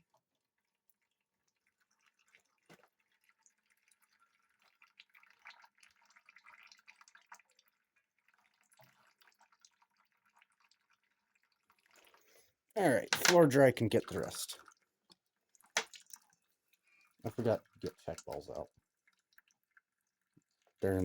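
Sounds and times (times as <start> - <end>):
fluid dripping: 0.0 - 21.0.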